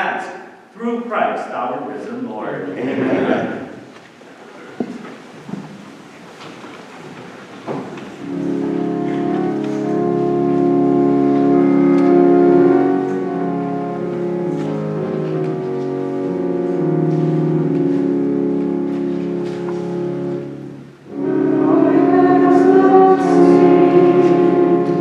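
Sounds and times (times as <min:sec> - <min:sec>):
church organ chords: 0:04.6 - 0:25.0.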